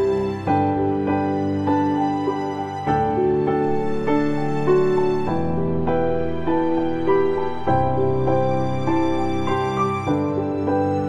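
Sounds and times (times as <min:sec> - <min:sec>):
slow gentle melody: 0:00.0 - 0:11.0.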